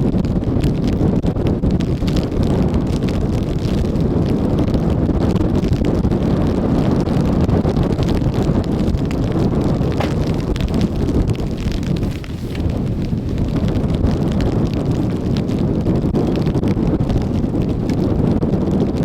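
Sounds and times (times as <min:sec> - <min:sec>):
wind buffeting microphone: 0:00.0 - 0:19.0
rain ticks: 0:00.3 - 0:19.0.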